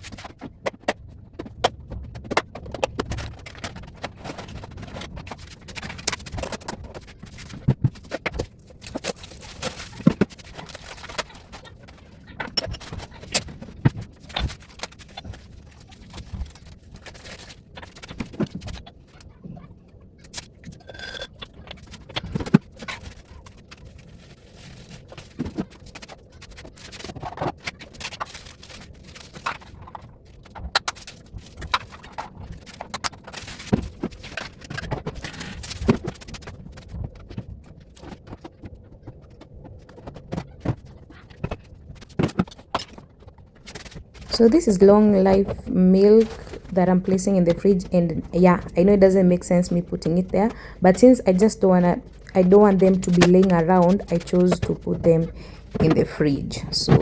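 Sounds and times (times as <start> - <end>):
groceries and tins being moved: 0.0 - 57.0.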